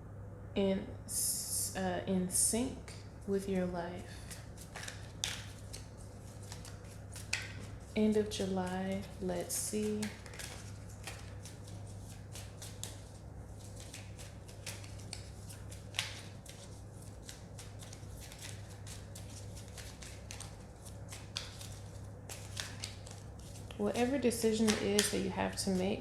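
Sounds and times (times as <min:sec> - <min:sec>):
cards shuffling and riffling: 0:04.2 - 0:25.8.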